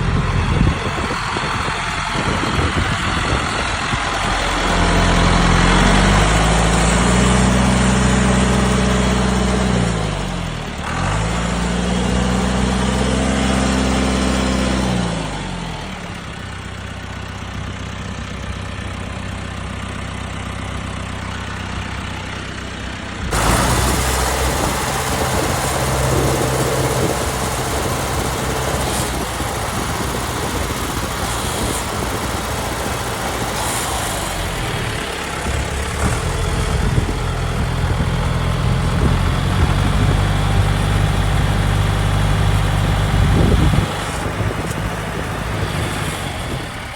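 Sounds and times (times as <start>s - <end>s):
tractor diesel engine revving: 0.0s - 18.0s, 18.6s - 46.9s.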